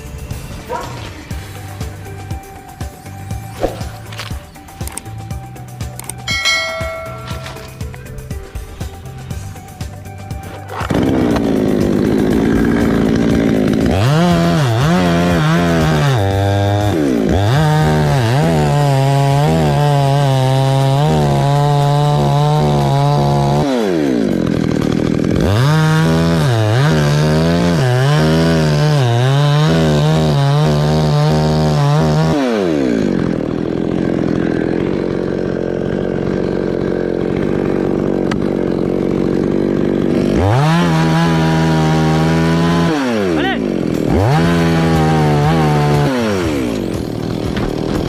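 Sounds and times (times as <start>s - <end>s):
chainsaw cutting wood: 0.0s - 48.0s.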